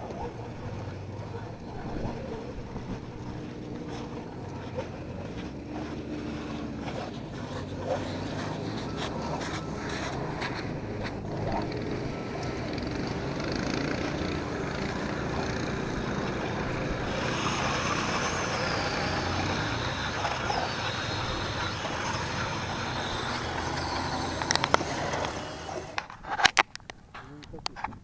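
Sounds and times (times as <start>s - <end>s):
snowmobile engine idling: 0.0s - 26.0s.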